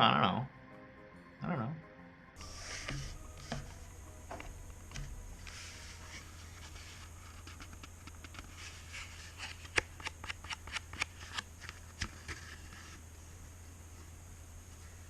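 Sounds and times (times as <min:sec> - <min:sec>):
soft rubbing and rustling: 0:02.4 - 0:15.0.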